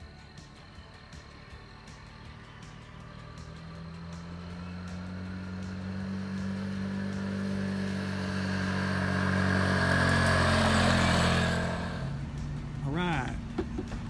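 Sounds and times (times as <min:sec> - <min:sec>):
scooter engine running: 0:00.0 - 0:14.0.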